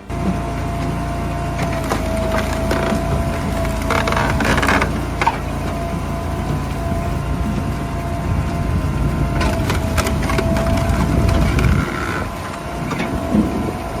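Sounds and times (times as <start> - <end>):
wood cracking: 0.0 - 13.6
heavy machinery humming: 0.0 - 14.0
low rumble: 0.0 - 14.0.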